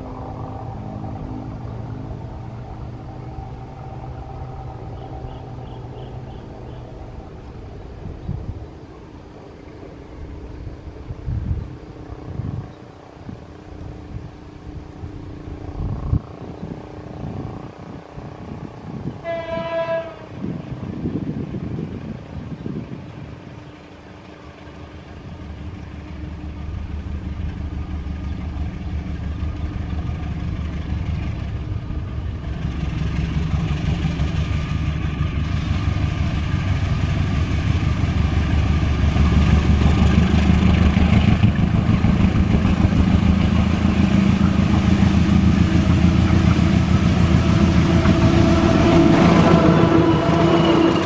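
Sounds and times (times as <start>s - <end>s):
locomotive engine drone: 0.0s - 51.0s.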